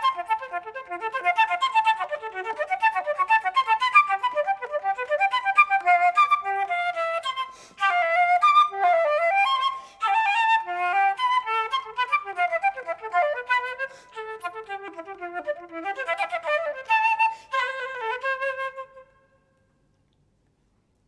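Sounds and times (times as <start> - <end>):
flute playing: 0.0 - 19.4.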